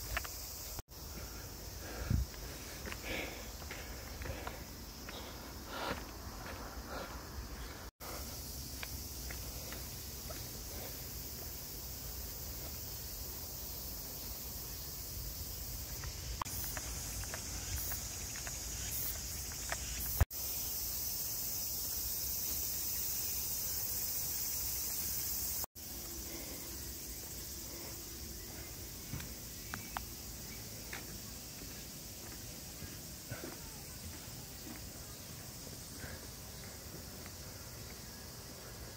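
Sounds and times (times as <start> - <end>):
high-pitched hiss: 0.0 - 38.9.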